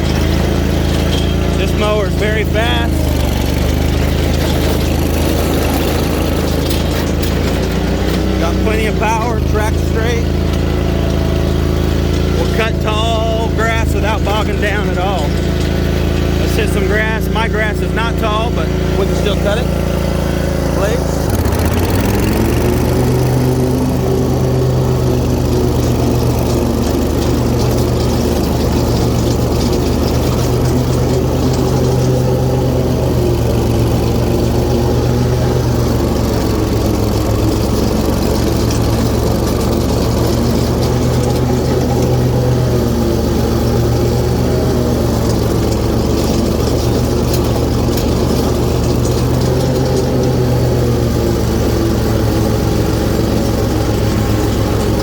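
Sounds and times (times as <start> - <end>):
lawn mower engine mowing grass: 0.0 - 55.0.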